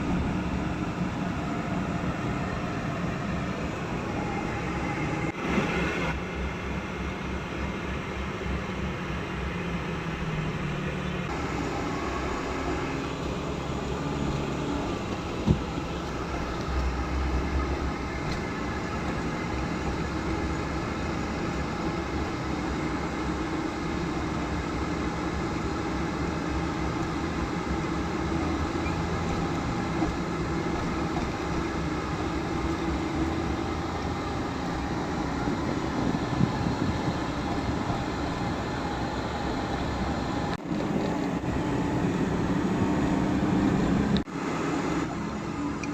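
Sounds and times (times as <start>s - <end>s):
road noise: 0.0s - 45.9s
vehicle engine hum: 0.0s - 45.9s.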